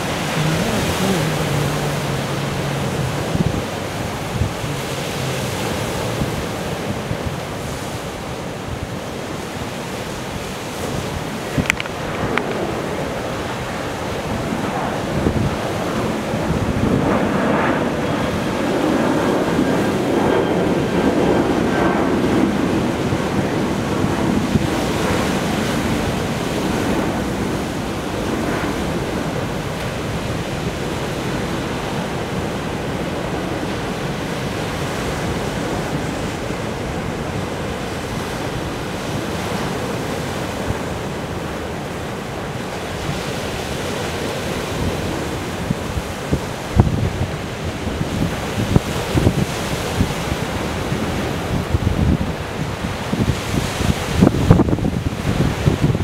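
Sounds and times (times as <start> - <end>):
surf breaking over rocks: 0.0 - 56.0
wind buffeting microphone: 0.0 - 56.0.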